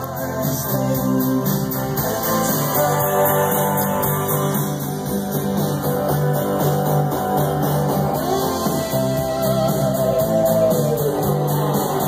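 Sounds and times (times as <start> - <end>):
guitar music through speakers: 0.0 - 12.0.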